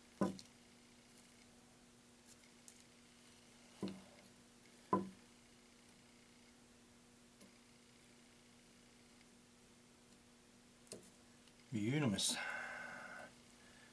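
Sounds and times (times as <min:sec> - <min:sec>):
faint hum: 0:00.0 - 0:13.9.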